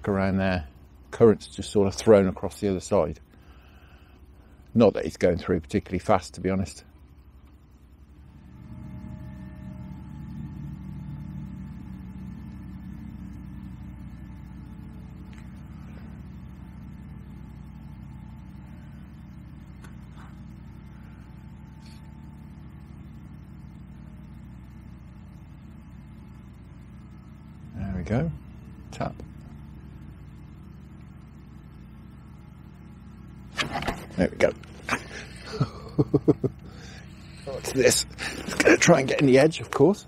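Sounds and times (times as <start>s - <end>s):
engine low rumble: 0.0s - 40.0s.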